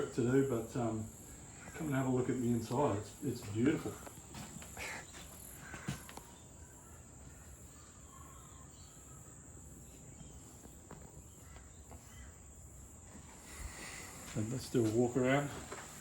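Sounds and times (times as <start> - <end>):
insects high-pitched drone: 0.0 - 16.0.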